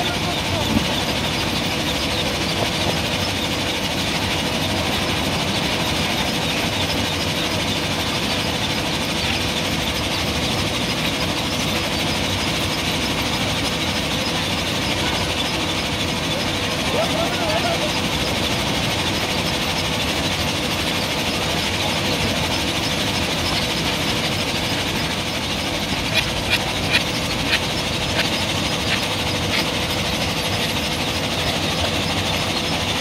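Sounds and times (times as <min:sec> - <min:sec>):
diesel engine running under load: 0:00.0 - 0:33.0
faint constant hum: 0:00.0 - 0:33.0.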